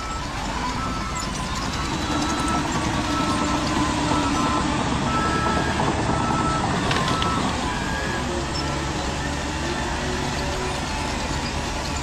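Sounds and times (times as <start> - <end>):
motors and gears running: 0.0 - 12.0.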